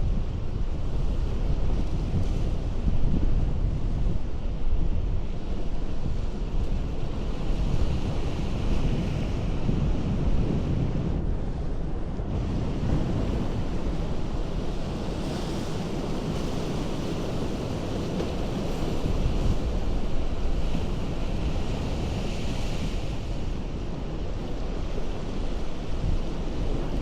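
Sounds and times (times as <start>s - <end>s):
ocean surf on rocky shore: 0.0s - 27.0s.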